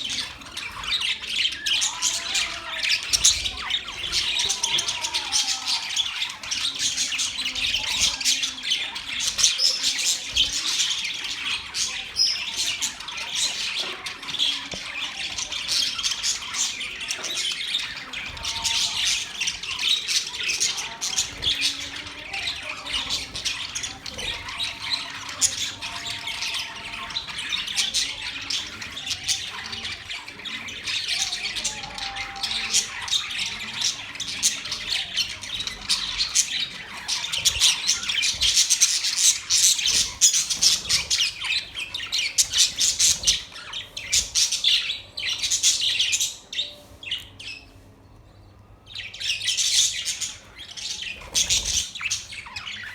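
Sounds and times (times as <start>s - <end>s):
budgerigars chattering: 0.0s - 47.8s, 48.9s - 52.9s.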